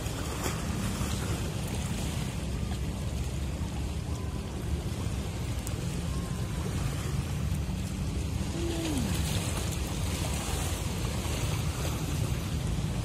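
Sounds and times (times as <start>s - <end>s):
ship engine rumbling: 0.0s - 13.0s
water noise: 0.0s - 13.0s
wind: 0.0s - 13.0s.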